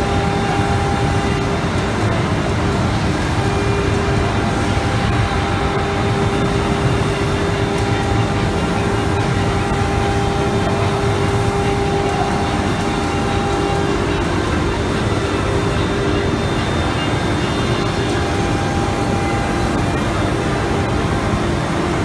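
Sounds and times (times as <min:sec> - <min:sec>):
machine noise: 0:00.0 - 0:22.0
router spindle whine: 0:00.0 - 0:22.0.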